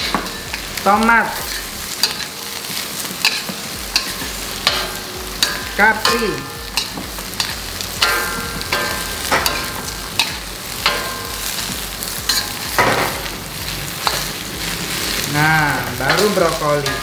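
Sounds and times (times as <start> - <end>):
metal spatula scraping a wok: 0.0 - 15.3
vegetables sizzling in a wok: 0.0 - 17.0.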